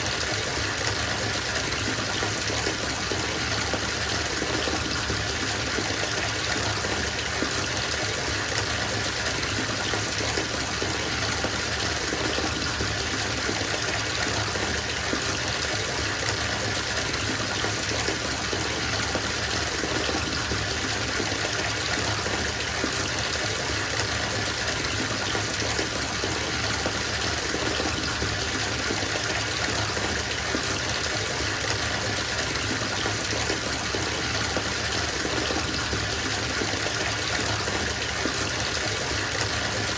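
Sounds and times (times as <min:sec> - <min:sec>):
water running from bathtub tap: 0:00.0 - 0:39.9.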